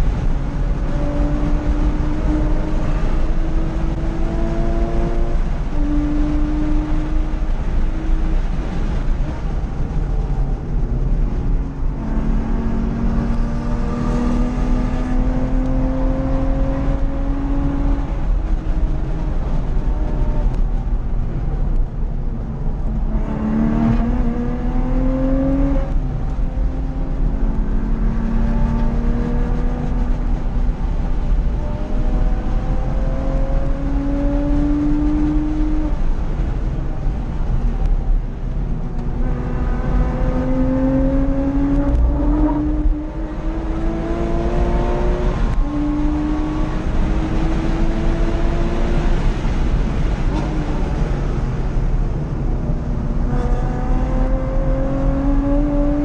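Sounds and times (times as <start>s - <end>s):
car engine revving through gears: 0.0s - 20.8s, 22.4s - 56.0s
road and wind noise: 0.0s - 56.0s.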